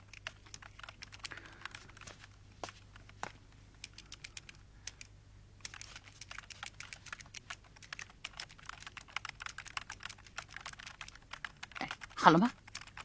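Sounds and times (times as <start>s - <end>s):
typing on computer keyboard: 0.0s - 2.2s, 2.9s - 13.0s.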